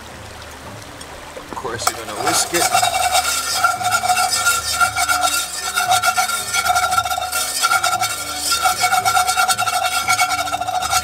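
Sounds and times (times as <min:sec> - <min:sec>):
wire whisk scraping metal pan: 0:01.8 - 0:11.0.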